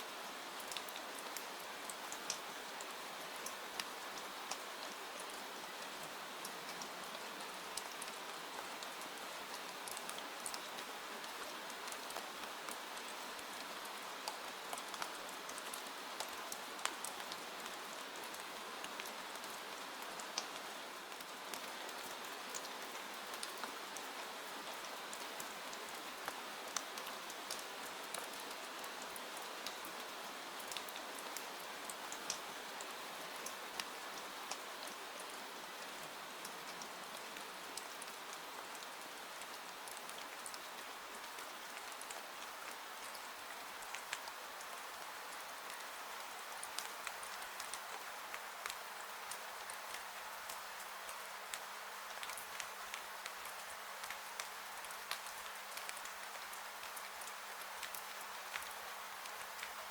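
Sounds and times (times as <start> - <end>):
steady rain falling: 0.0 - 59.9
sharp clicks of raindrops: 0.2 - 59.9.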